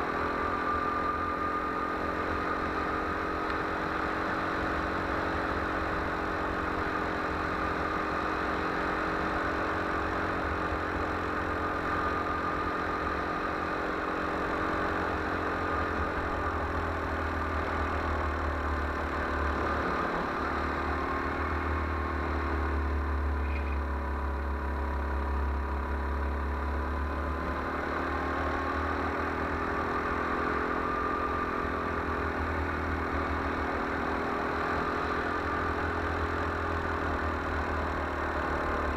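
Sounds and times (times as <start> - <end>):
go-kart engine running: 0.0 - 38.9.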